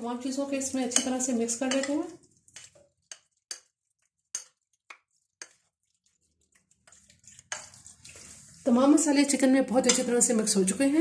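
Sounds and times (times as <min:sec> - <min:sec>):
metal spoon scraping a bowl: 0:00.6 - 0:08.7, 0:09.8 - 0:10.4.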